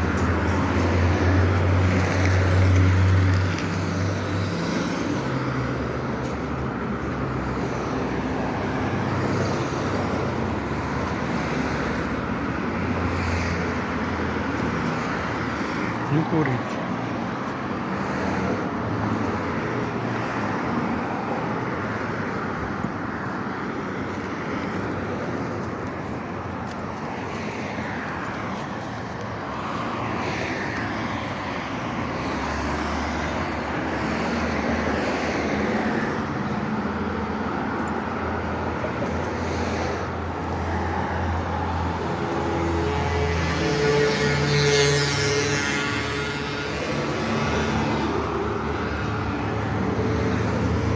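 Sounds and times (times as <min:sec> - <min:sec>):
cars passing: 0:00.0 - 0:50.9
road murmur: 0:00.0 - 0:50.9.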